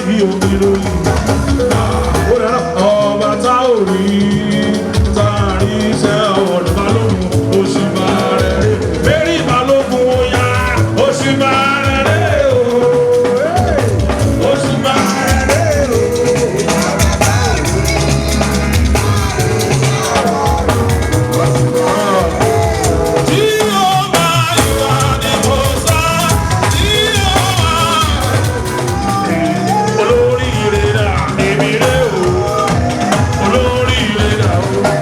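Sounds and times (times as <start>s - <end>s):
drum kit: 0.0s - 35.0s
gospel music: 0.0s - 35.0s
people singing: 0.0s - 35.0s.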